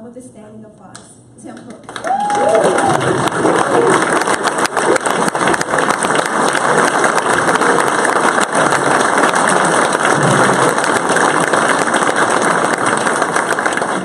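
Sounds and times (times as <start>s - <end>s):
audience applauding: 1.8s - 14.0s
people cheering: 1.9s - 14.0s.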